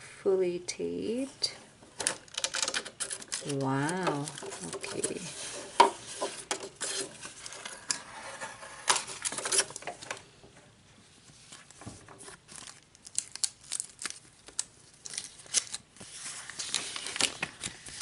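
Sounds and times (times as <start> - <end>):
paper and tape rustling and tearing: 2.0 - 9.9, 11.3 - 18.0.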